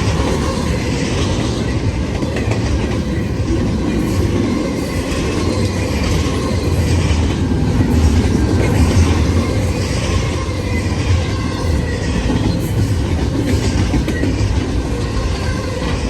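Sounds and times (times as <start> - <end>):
freight train rumbling past: 0.0 - 16.0
wheel clatter over rail joints: 0.0 - 16.0.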